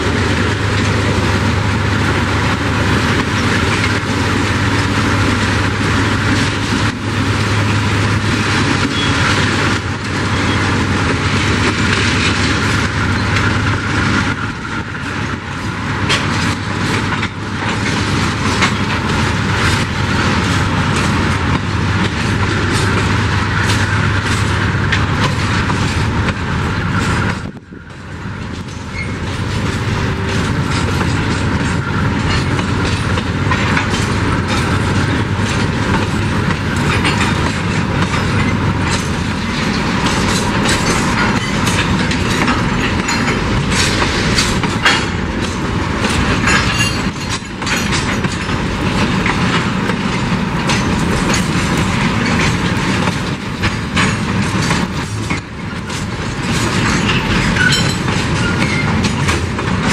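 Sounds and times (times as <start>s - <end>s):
freight wagons rolling on rails: 0.0s - 59.9s
rattles from empty cars: 0.0s - 59.9s.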